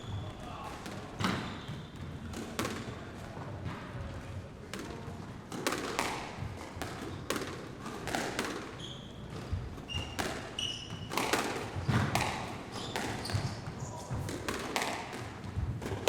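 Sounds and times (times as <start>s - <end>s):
sneakers squeaking on floor: 0.0s - 3.2s, 6.0s - 16.0s
balls bouncing on court floor: 0.0s - 16.0s.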